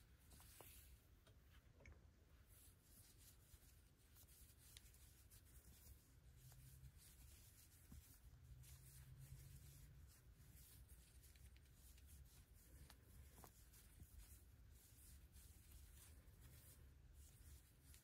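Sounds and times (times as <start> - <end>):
yarn and crochet hook rustling: 0.0 - 18.0.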